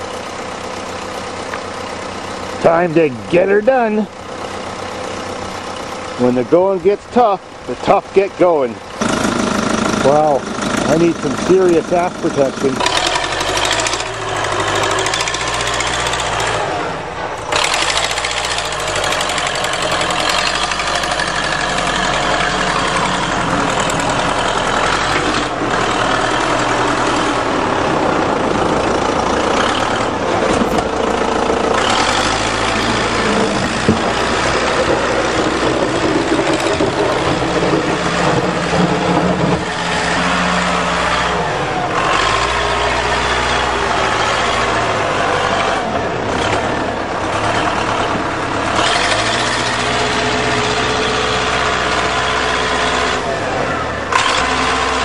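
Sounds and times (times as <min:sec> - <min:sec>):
backhoe diesel engine running: 0:00.0 - 0:55.0.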